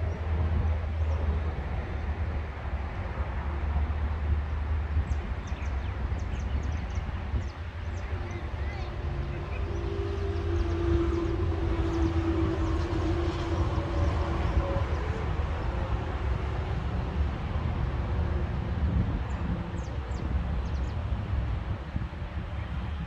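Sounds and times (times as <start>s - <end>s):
distant engine droning: 0.0s - 23.0s
wind on the microphone: 0.0s - 23.0s.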